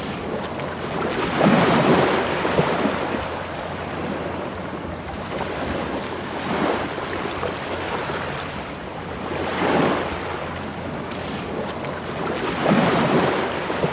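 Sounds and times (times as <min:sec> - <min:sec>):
sea waves breaking on shore: 0:00.0 - 0:13.9.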